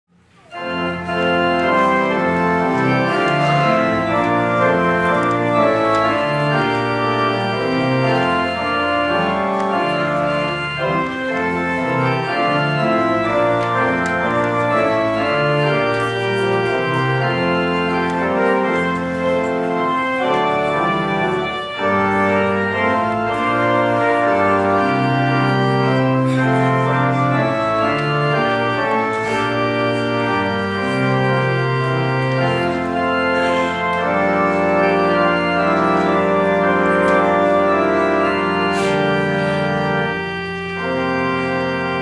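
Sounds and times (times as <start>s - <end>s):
organ playing slow chords: 0.3s - 42.0s.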